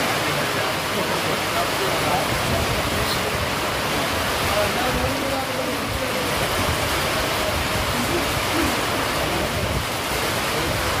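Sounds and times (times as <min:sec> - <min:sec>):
storm wind gusting through trees: 0:00.0 - 0:11.0
wind buffeting microphone: 0:02.0 - 0:11.0.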